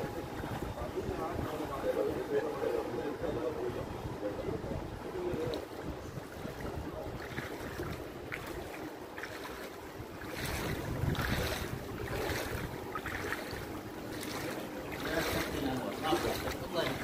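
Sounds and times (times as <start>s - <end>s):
moving floodwater: 0.0s - 17.0s
wind on microphone: 0.0s - 17.0s.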